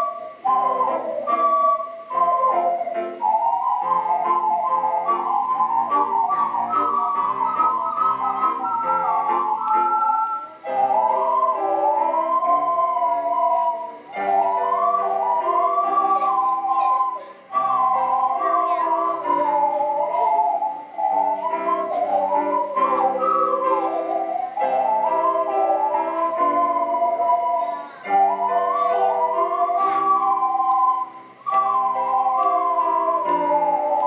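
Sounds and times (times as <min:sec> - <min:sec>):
ocarina duet: 0:00.0 - 0:34.0
piano accompaniment: 0:00.0 - 0:34.0.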